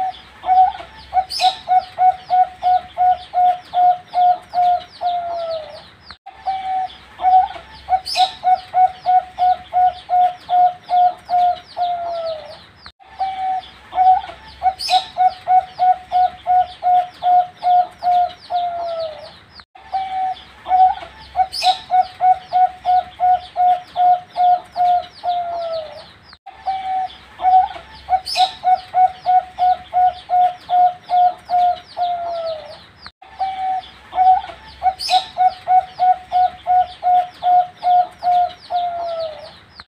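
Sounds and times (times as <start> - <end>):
dove cooing: 0.0 - 39.6.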